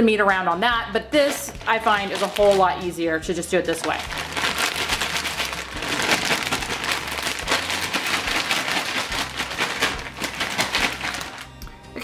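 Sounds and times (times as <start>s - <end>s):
plastic bag crinkling: 1.2s - 3.0s, 3.6s - 11.6s.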